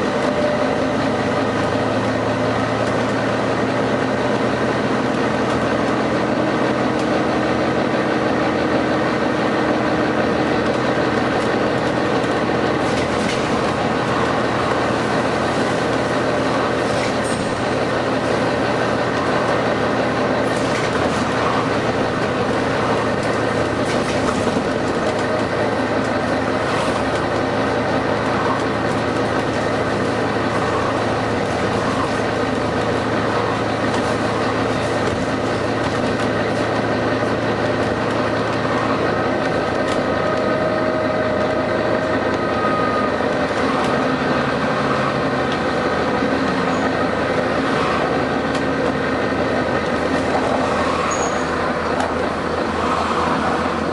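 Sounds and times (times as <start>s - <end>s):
bus body rattles: 0.0s - 53.9s
diesel bus engine running: 0.0s - 53.9s.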